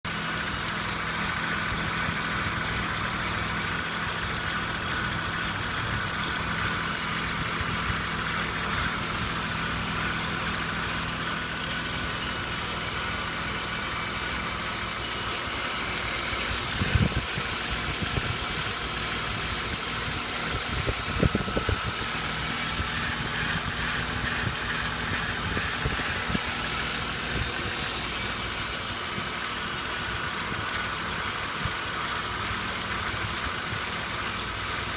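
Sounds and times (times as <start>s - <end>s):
car engine running: 0.0s - 34.9s
high-pitched fluttering squeal: 0.1s - 34.9s.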